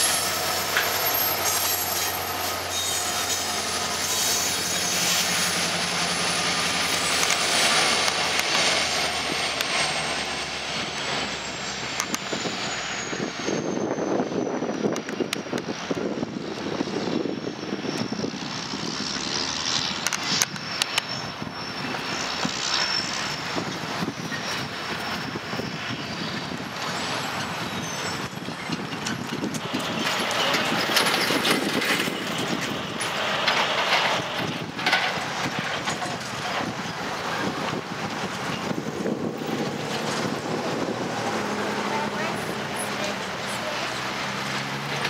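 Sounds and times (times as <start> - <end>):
high-pitched squeal: 0.0 - 45.0
train wheels rolling on rails: 0.0 - 45.0.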